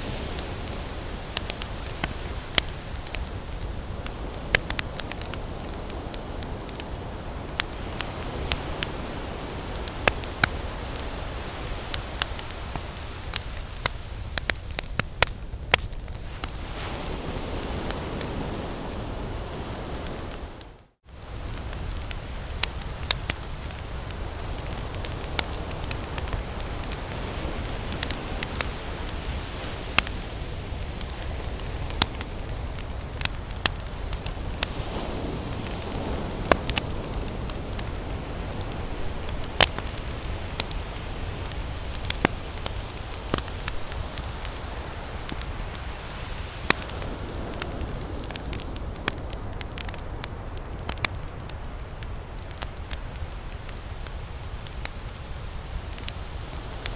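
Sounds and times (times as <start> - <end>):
campfire crackling: 0.0 - 56.9
low fire rumble: 0.0 - 56.9.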